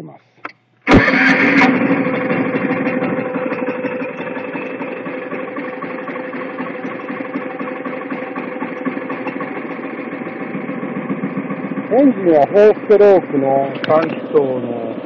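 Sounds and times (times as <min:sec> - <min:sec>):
small engine idling: 0:00.9 - 0:15.0.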